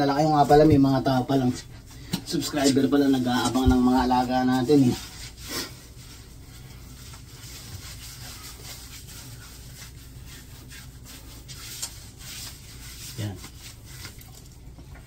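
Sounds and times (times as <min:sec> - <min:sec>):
hands rubbing wet dog fur: 0:00.2 - 0:14.7.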